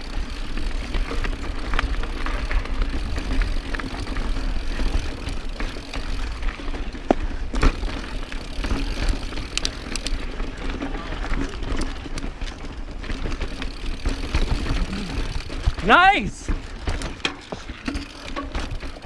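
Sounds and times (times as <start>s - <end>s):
bike knocks and rattles: 0.0s - 19.0s
bike rumbling over rocky trail: 0.0s - 19.0s.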